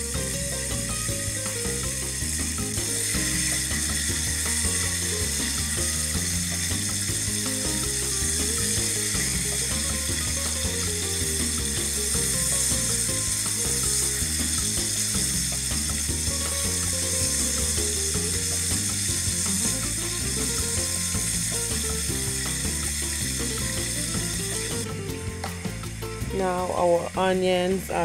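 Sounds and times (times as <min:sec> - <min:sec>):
meat sizzling in hot oil: 0:00.0 - 0:28.0.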